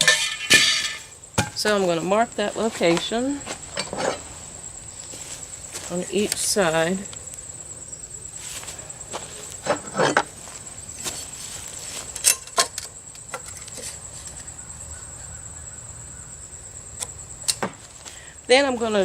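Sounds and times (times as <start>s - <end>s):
insect chirring: 0.0s - 19.0s.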